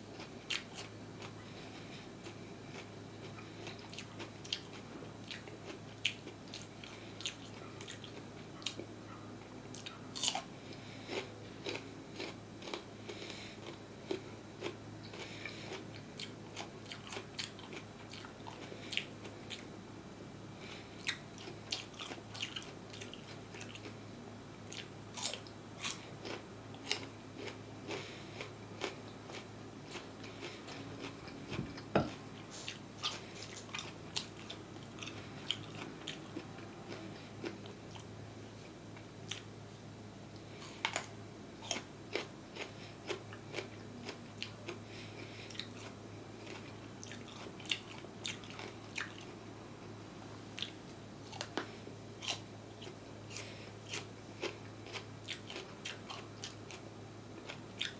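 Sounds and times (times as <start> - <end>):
person chewing food: 0.1 - 8.9, 9.7 - 19.7, 20.6 - 24.0, 24.6 - 38.2, 39.0 - 39.5, 40.4 - 50.0, 50.6 - 57.9.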